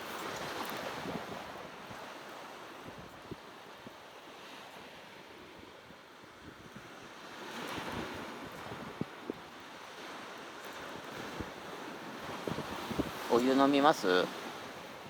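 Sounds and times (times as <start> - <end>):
wind buffeting microphone: 0.0 - 4.0, 5.3 - 13.4
sea waves washing on shore: 0.0 - 15.0.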